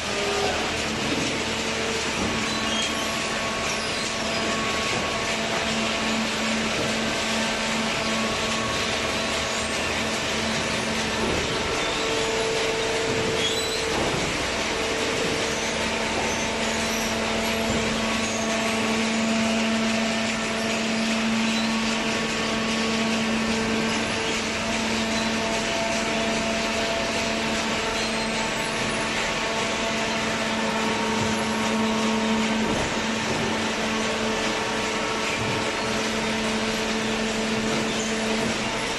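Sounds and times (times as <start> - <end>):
hydraulic pump humming: 0.0 - 38.9.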